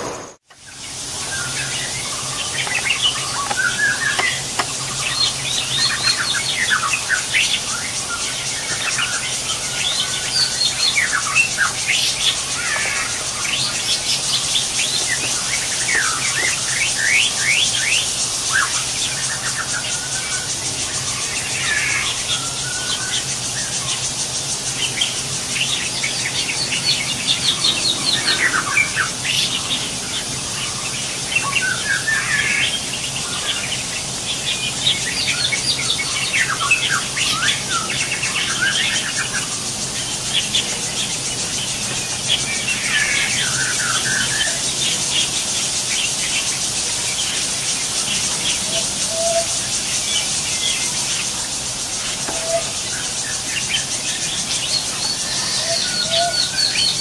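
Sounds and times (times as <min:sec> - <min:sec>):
steady high hiss: 0:00.0 - 0:57.0
birds chirping and squealing: 0:00.7 - 0:57.0.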